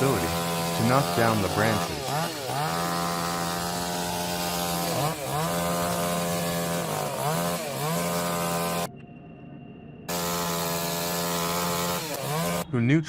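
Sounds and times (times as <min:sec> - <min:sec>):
chainsaw cutting wood: 0:00.0 - 0:08.9, 0:10.1 - 0:12.6.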